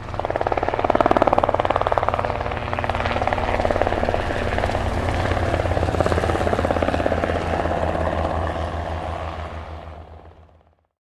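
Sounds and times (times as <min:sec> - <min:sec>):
helicopter rotor blades chopping: 0:00.0 - 0:10.7.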